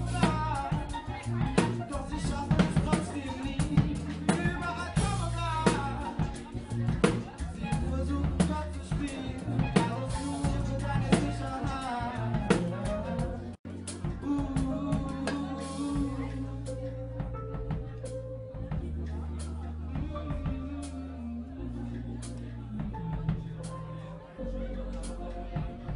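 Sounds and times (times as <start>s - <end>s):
drum kit beat: 0.0s - 21.0s, 21.6s - 24.0s, 25.0s - 25.9s
bass line: 0.0s - 25.9s
keyboard-like notes: 0.0s - 25.9s
person singing: 0.0s - 25.9s.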